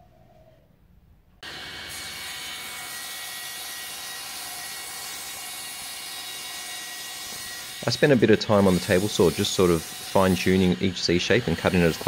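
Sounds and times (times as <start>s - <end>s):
table saw whining: 1.4s - 12.0s.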